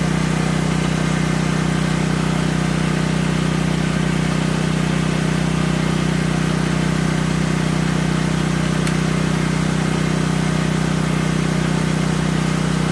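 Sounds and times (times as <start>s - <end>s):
generator running: 0.0s - 12.9s.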